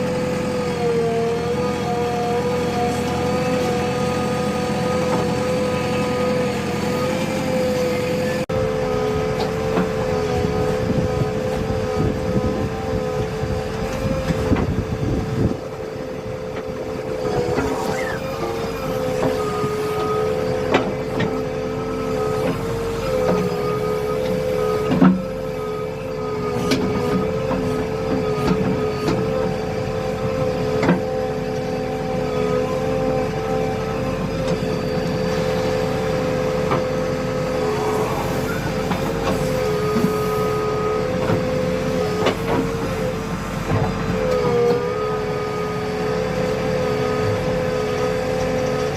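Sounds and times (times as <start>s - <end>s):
diesel engine humming: 0.0s - 48.9s.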